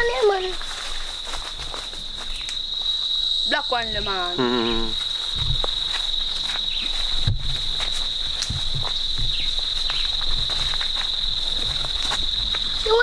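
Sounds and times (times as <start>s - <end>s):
footsteps on forest floor: 0.0s - 13.0s
insects shrilling: 0.0s - 13.0s.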